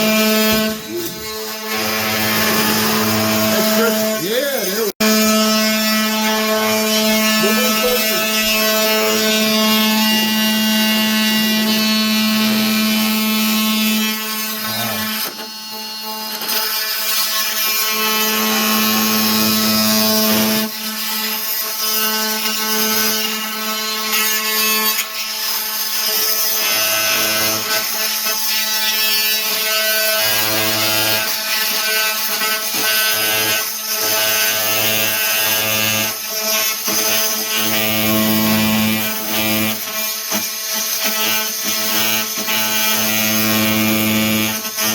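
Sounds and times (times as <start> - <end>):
oscillating multi-tool buzzing: 0.0 - 44.9.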